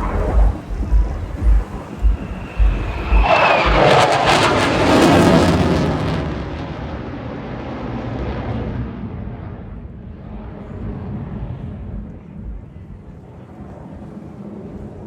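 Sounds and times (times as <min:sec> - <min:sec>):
wind rumble on microphone: 0:00.0 - 0:05.7, 0:08.5 - 0:15.0
aircraft roar passing low: 0:00.0 - 0:12.8.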